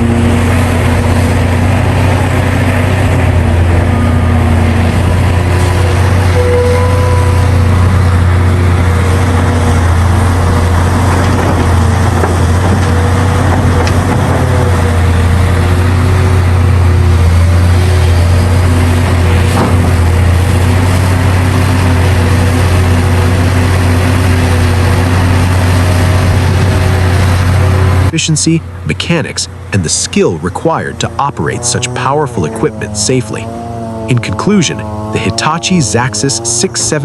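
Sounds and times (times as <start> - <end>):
diesel engine drone: 0.0 - 37.0.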